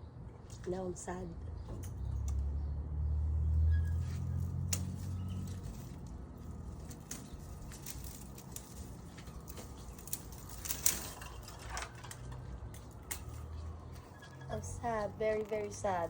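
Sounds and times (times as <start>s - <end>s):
rustling of leaves and stems: 1.6s - 16.0s.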